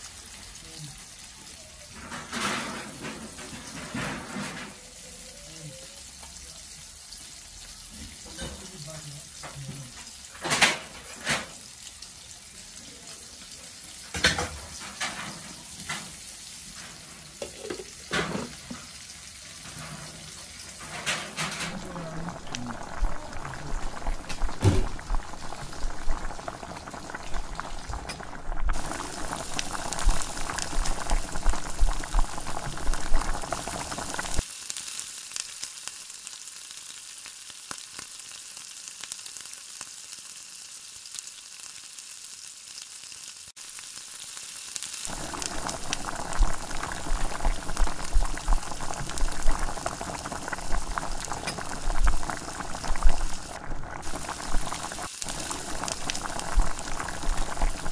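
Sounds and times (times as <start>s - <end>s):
food simmering and sizzling in pan: 0.0s - 57.9s.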